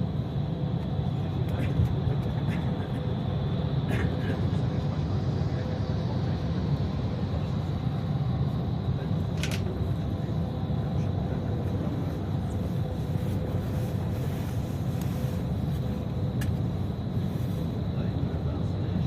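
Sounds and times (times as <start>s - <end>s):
bus engine and road rumble: 0.0s - 19.0s
faint constant whine: 0.0s - 19.0s.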